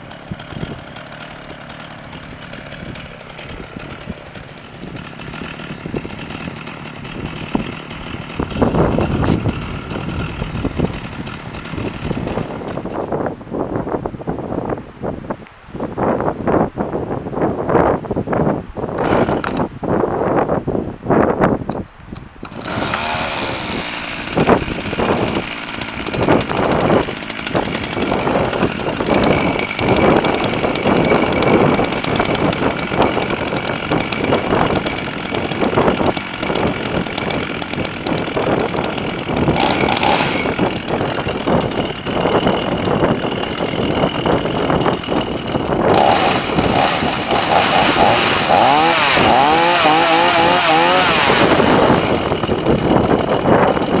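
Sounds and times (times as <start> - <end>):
chainsaw engine running: 0.0 - 13.2, 19.0 - 19.7, 22.4 - 54.0.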